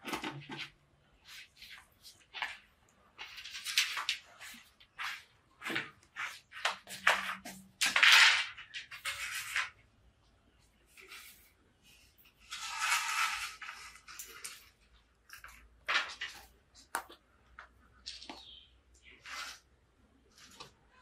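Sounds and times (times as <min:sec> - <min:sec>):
bamboo poles scraping tiled floor: 0:00.0 - 0:09.9, 0:10.8 - 0:17.0, 0:18.0 - 0:21.0.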